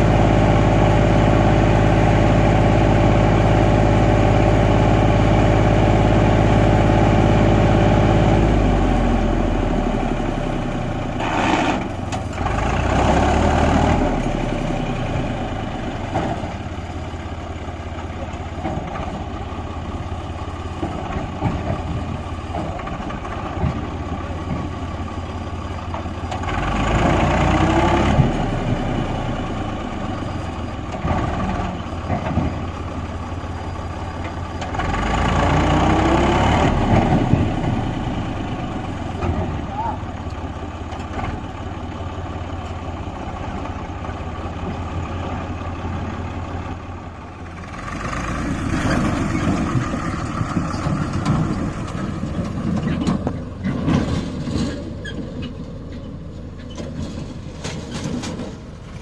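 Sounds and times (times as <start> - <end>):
tractor diesel engine labouring: 0.0 - 59.0.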